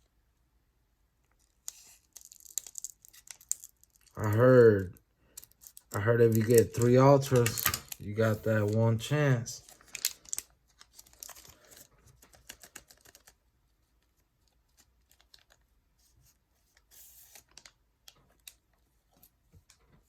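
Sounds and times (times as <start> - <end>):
trading cards being handled: 1.3 - 20.0.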